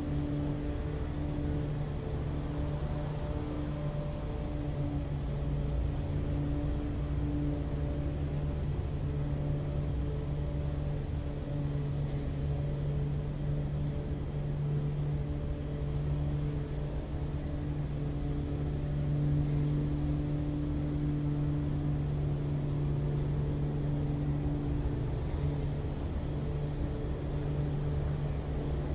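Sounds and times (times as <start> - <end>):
low mechanical hum: 0.0 - 28.9.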